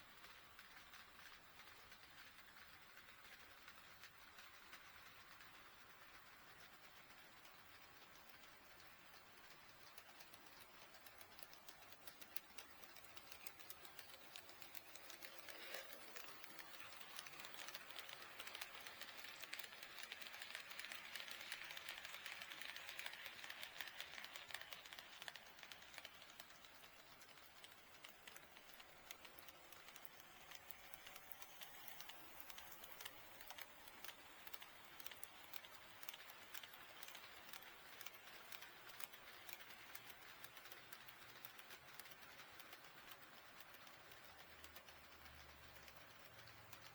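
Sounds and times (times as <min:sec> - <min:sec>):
model train running hiss: 0:00.0 - 0:46.9
model train wheels clicking: 0:00.0 - 0:46.9.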